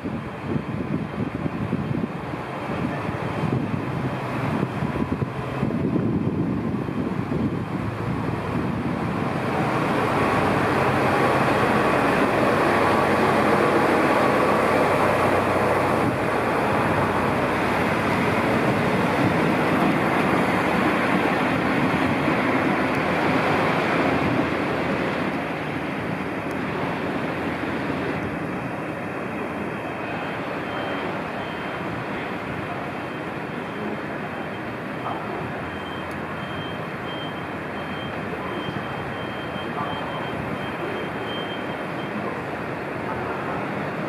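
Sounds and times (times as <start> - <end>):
diesel railcar engine: 0.0 - 44.0.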